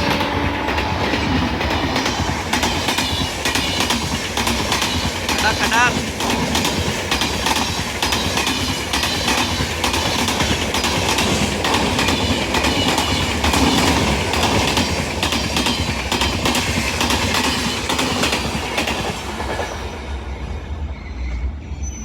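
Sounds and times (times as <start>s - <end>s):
train wheels clattering: 0.0s - 20.5s.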